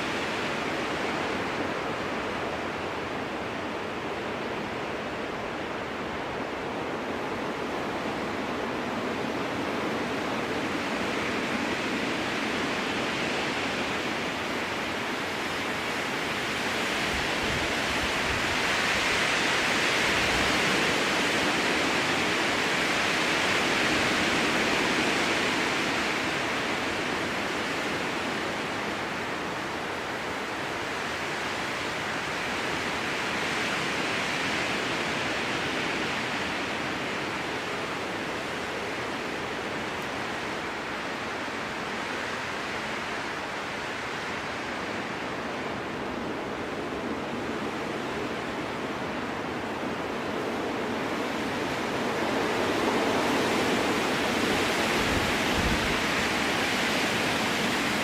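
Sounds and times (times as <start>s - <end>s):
strong wind through trees: 0.0s - 58.0s.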